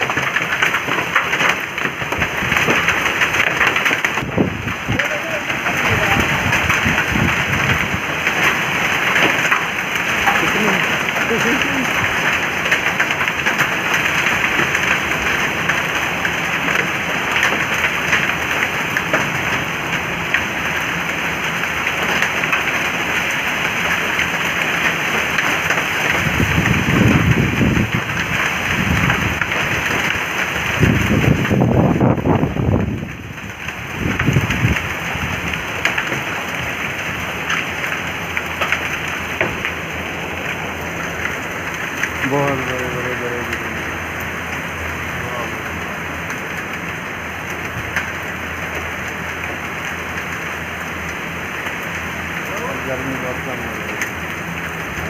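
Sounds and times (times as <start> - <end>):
heavy rain and hail on paving: 0.0 - 55.0
low rumbling: 0.0 - 55.0.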